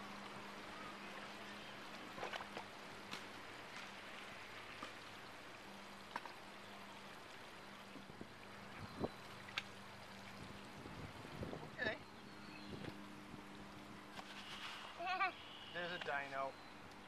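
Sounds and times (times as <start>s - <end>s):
steady faint hiss: 0.0s - 17.0s.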